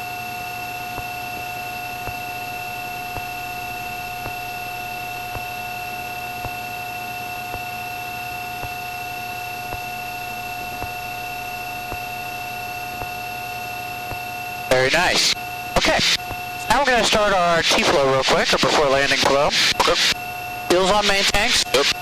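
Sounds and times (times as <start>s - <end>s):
cockpit hiss and hum: 0.5s - 22.0s.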